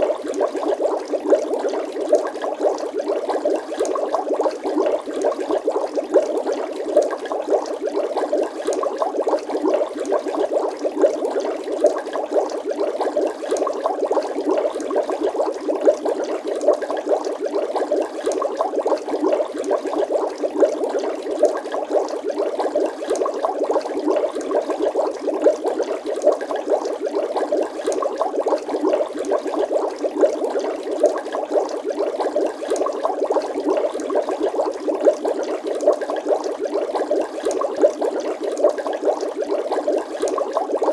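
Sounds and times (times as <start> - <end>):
water bubbling: 0.0 - 40.9.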